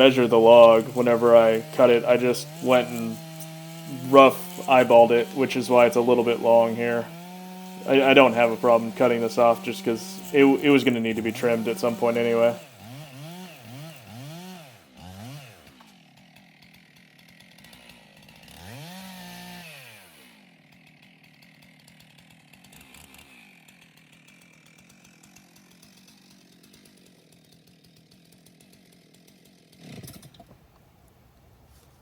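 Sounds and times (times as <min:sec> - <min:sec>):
chainsaw revving: 0:00.0 - 0:32.0.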